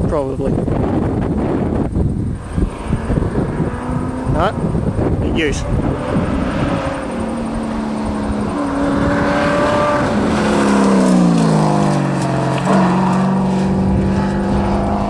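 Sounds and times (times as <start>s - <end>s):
rally car engine passing at speed: 1.2s - 15.0s.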